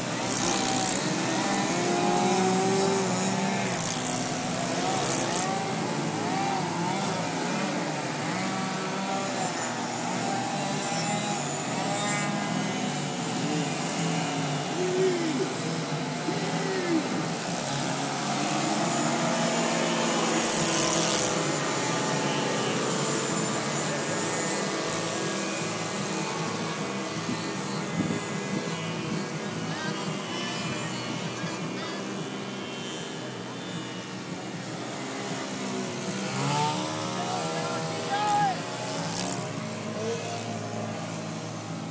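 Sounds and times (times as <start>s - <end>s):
model plane engines droning: 0.0s - 41.9s.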